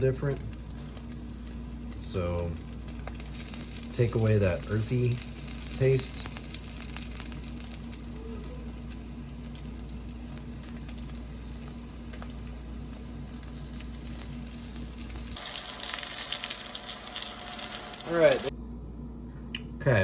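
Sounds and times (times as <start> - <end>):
food sizzling in hot oil: 0.0 - 18.5.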